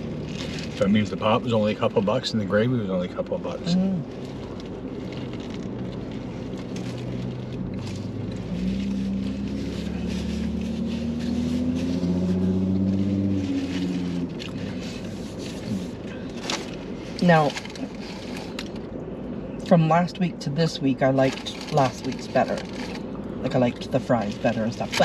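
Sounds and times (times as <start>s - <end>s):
car engine humming: 0.0s - 25.0s.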